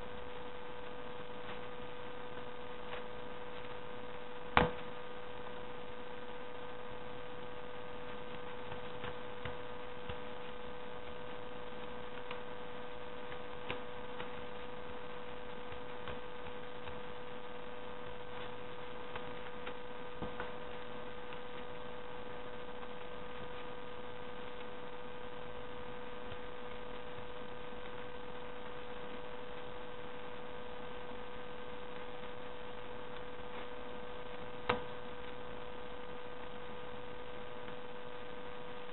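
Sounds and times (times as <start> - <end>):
electrical hum with high tone: 0.0 - 38.9.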